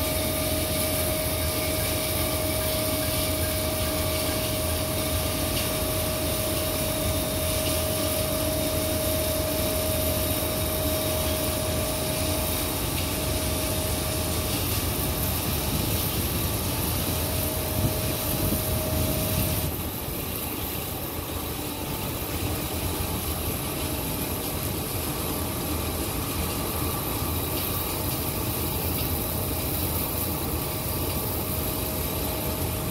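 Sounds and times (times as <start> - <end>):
transport fan humming and whining: 0.0 - 32.9.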